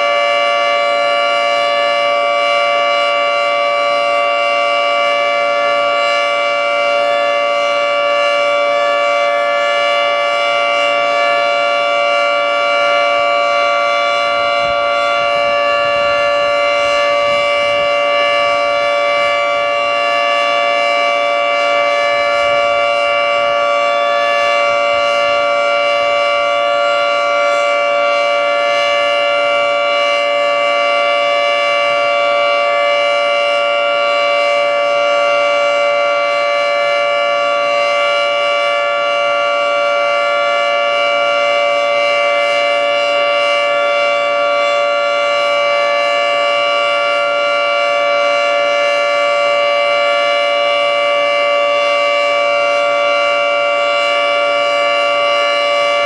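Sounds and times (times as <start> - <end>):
warning siren chord: 0.0 - 56.0.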